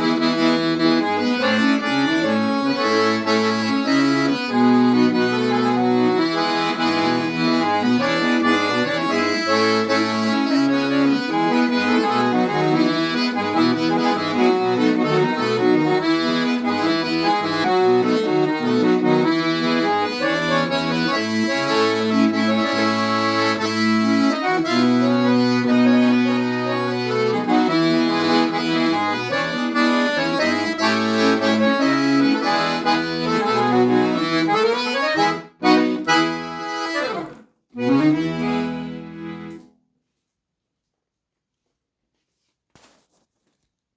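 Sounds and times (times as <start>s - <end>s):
accordion music: 0.0s - 39.8s.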